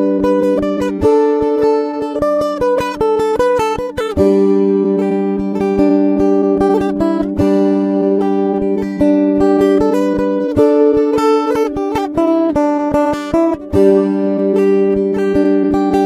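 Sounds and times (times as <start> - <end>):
plucked acoustic guitar: 0.0 - 16.0.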